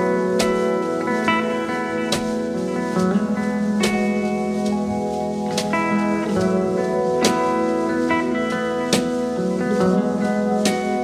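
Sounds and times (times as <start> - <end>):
instrumental music with held chords: 0.0 - 11.0
sharp beat: 0.0 - 11.0.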